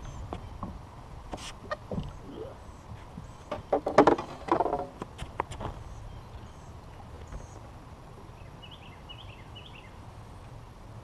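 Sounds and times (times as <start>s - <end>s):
low outdoor noise: 0.0s - 11.0s.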